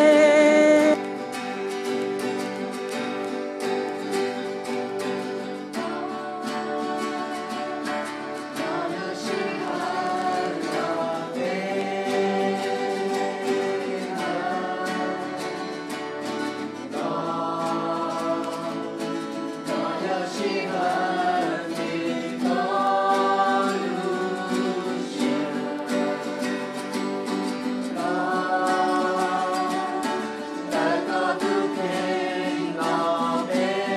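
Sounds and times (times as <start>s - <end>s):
group of voices singing: 0.0s - 3.1s, 4.7s - 33.9s
strummed acoustic guitars: 0.0s - 33.9s.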